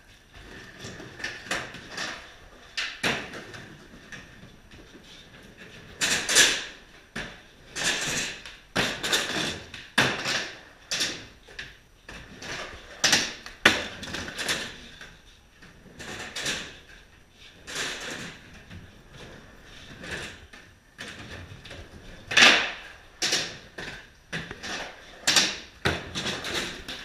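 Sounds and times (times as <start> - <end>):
skateboard wheels rumbling on wood: 0.1 - 27.0
skateboard clacking on ramps: 0.4 - 4.8, 5.5 - 15.1, 17.7 - 27.0.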